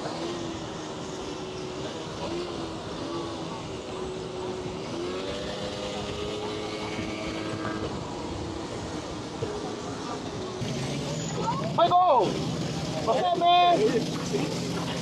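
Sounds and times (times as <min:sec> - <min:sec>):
small motor humming: 0:00.0 - 0:15.0
wind and road noise: 0:00.0 - 0:15.0.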